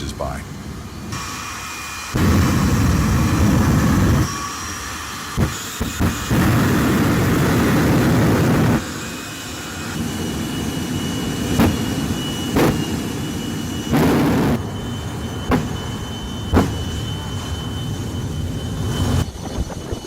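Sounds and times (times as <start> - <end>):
faint high whine: 0.0 - 20.0
jet turbine engine running: 0.0 - 20.0.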